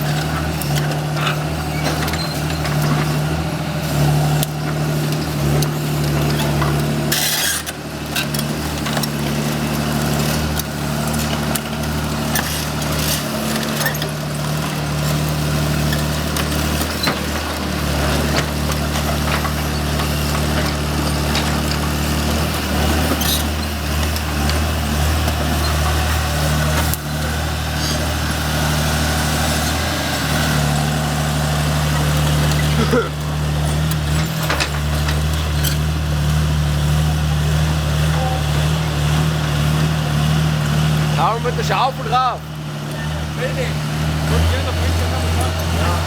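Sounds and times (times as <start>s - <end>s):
excavator diesel engine under load: 0.0s - 46.0s.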